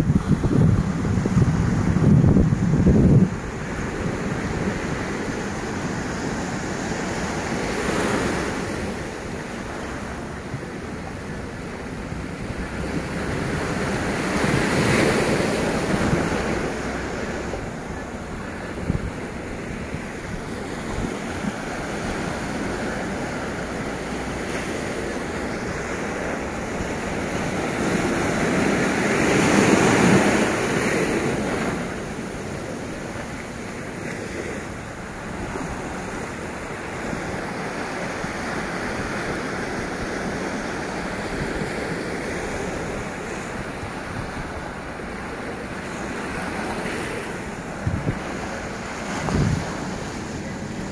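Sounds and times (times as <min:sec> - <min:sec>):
surf washing over sand and rocks: 0:00.0 - 0:50.9
wind buffeting microphone: 0:00.0 - 0:50.9.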